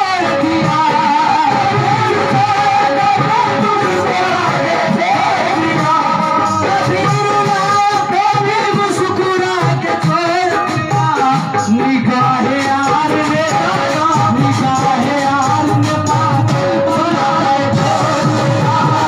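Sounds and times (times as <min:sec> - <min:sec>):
harmonium: 0:00.0 - 0:19.0
man singing ornamented notes: 0:00.0 - 0:19.0.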